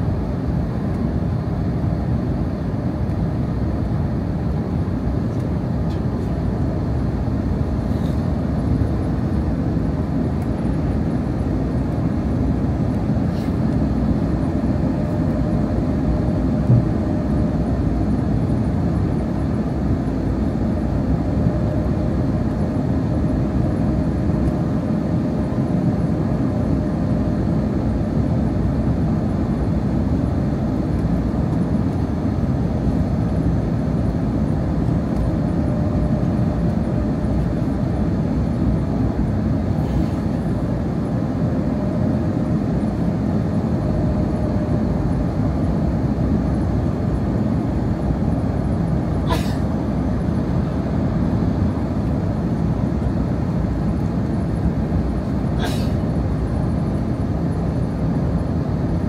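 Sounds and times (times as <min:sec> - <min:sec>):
airflow and engine roar: 0:00.0 - 0:59.0.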